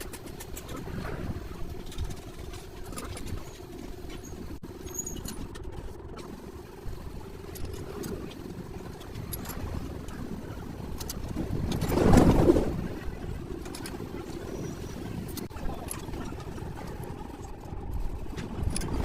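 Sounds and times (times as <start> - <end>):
faint held hum: 0.0 - 19.0
low engine-like rumble: 0.0 - 19.0.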